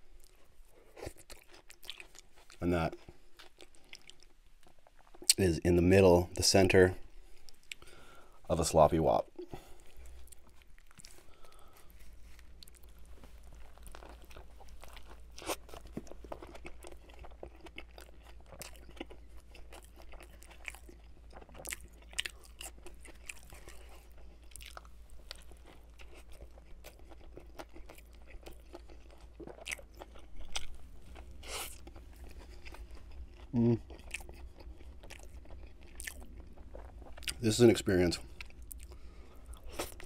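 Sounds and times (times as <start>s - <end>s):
chewing with crunches and smacking: 0.0s - 5.4s, 7.0s - 8.5s, 9.2s - 40.0s
steady low hum: 0.0s - 40.0s.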